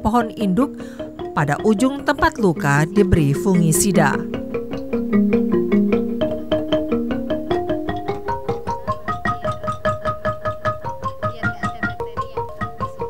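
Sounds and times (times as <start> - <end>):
keyboard playing quick notes: 0.0 - 12.8.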